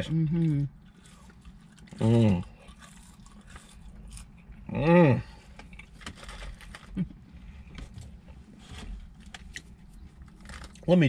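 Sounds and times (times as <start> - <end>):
faint clicks and rustles of eating: 0.3 - 4.7, 5.3 - 11.0.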